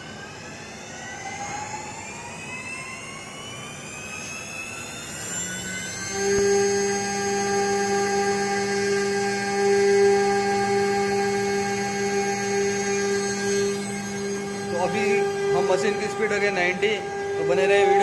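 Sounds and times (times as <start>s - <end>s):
router spindle motor whine: 0.0s - 18.0s.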